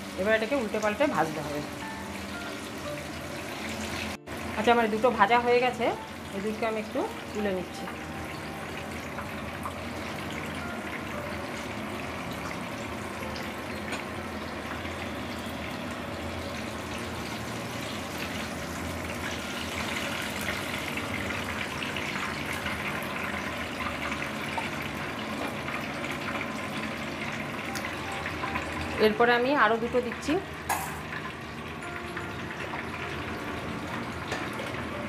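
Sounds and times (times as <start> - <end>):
skewers sizzling in hot oil: 0.0 - 35.0.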